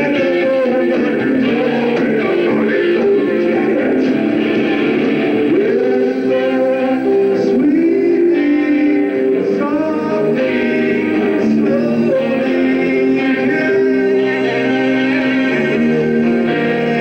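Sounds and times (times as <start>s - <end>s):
drums: 0.0s - 17.0s
electric guitars: 0.0s - 17.0s
person singing: 0.0s - 17.0s.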